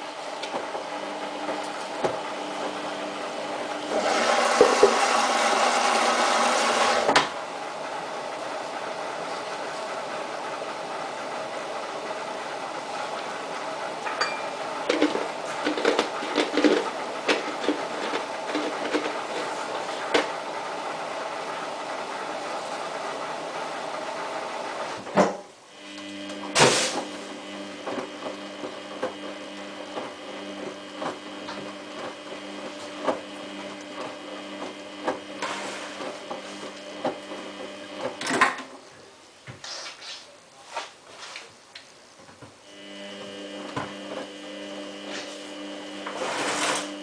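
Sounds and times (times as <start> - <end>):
washing machine motor hum: 0.0 - 39.4, 42.0 - 47.0.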